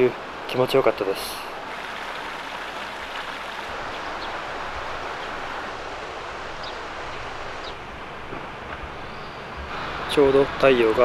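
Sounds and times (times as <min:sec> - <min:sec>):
steady rushing background noise: 0:00.4 - 0:11.0.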